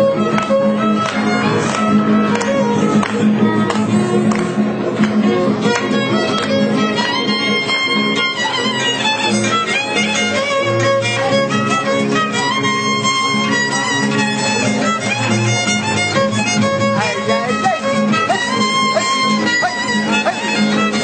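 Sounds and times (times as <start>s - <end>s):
acoustic guitars: 0.0s - 21.0s
violin gliding melody: 0.0s - 21.0s.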